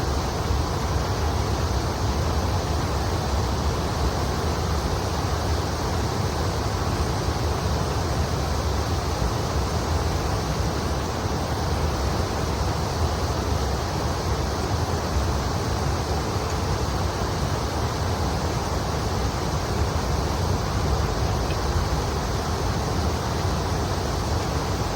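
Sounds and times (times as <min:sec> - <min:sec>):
river water rushing: 0:00.1 - 0:24.9.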